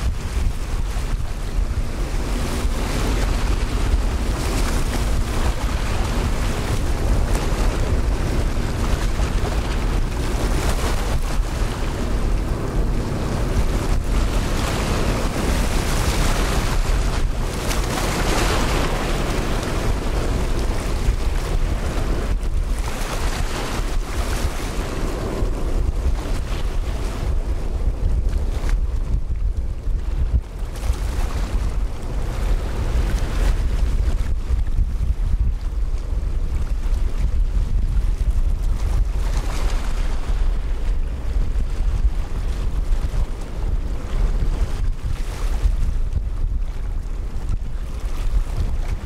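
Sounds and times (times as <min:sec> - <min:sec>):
strong wind buffeting microphone: 0:00.0 - 0:49.0.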